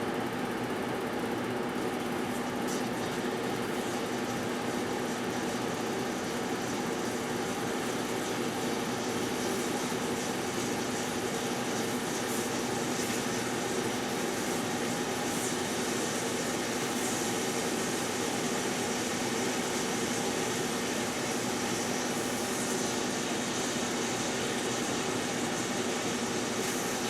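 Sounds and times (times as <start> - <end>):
microwave oven humming: 0.0 - 27.0.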